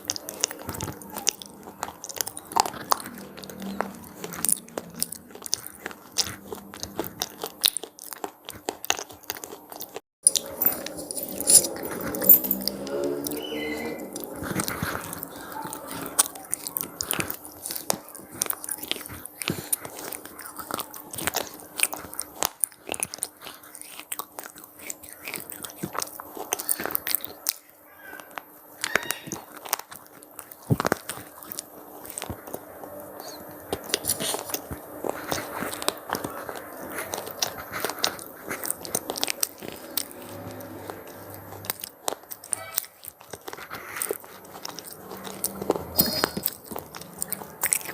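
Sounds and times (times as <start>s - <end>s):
crunchy snacks being chewed: 0.0s - 47.9s.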